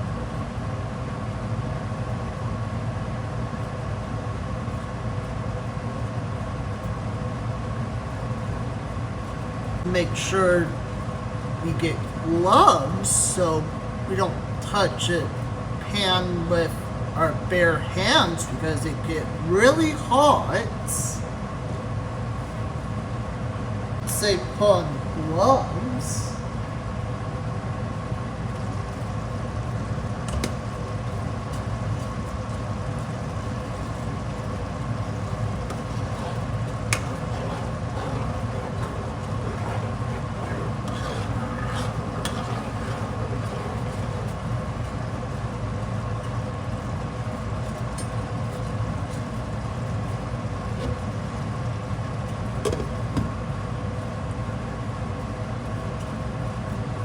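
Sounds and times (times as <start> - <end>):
steady machine hum with tones: 0.0 - 52.7.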